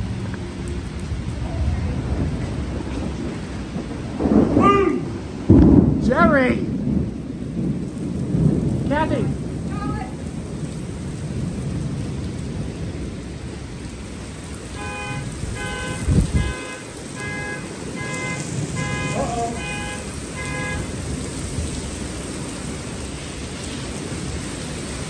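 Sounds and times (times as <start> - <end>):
heavy rain on pavement: 0.0 - 25.0
thunder rumbling: 0.0 - 25.0.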